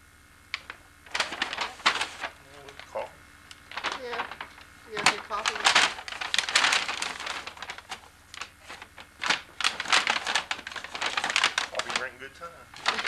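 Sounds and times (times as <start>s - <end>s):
paper rustling and crinkling: 0.6s - 13.0s.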